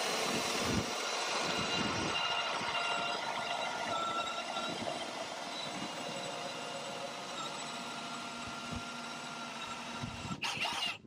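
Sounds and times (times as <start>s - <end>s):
electric jack motor running: 0.0s - 11.0s.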